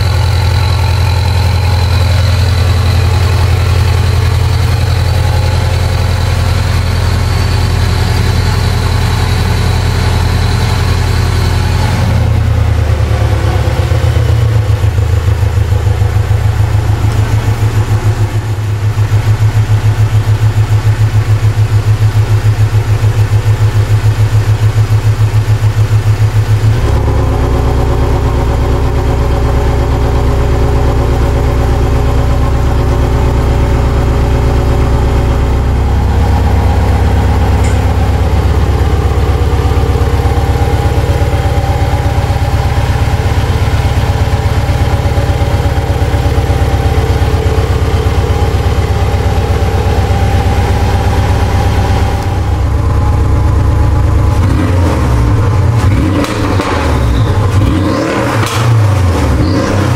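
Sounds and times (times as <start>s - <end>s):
deep car exhaust drone: 0.0s - 59.9s.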